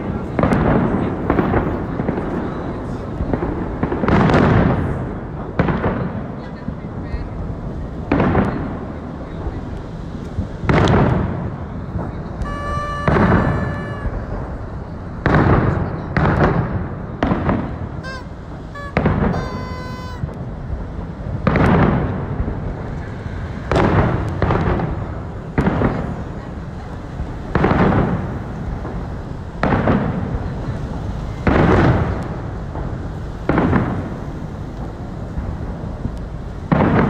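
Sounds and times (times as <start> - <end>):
firework booms: 0.0 - 37.0.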